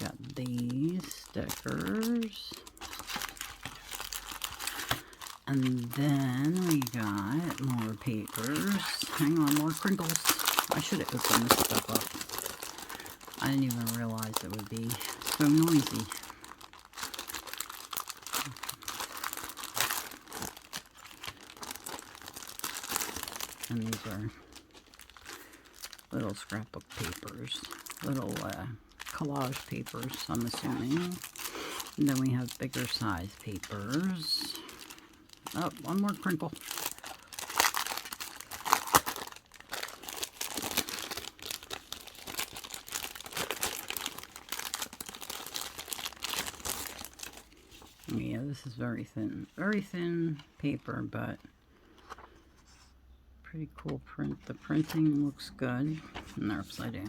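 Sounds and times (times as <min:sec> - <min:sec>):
plastic packaging crinkling: 0:00.0 - 0:48.4
plastic wrapping crackling: 0:00.0 - 0:48.4.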